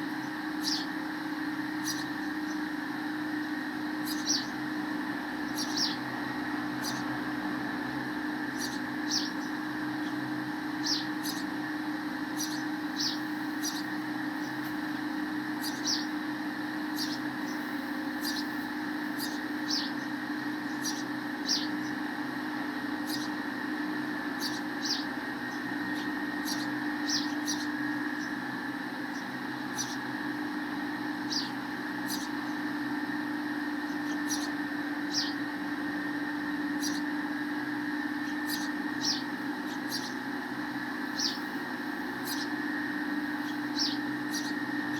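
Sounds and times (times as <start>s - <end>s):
sparrows chirping: 0.0s - 44.9s
steady background hum: 0.0s - 44.9s.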